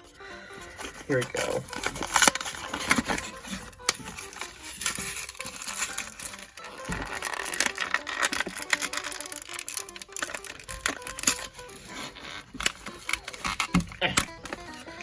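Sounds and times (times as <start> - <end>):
packaging crackling and snapping: 0.5 - 15.0.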